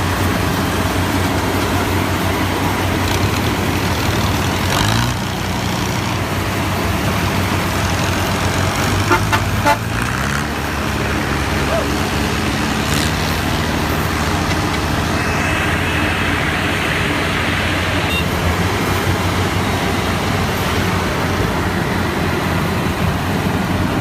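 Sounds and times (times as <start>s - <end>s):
engine running under load: 0.0s - 24.0s.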